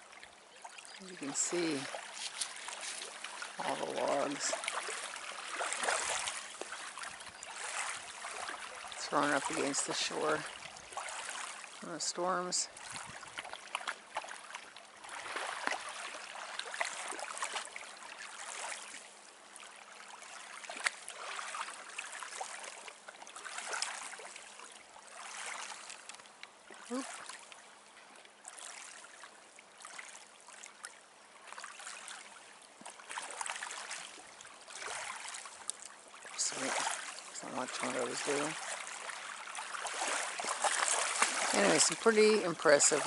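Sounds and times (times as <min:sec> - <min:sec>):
small waves lapping on shore: 0:00.0 - 0:43.0.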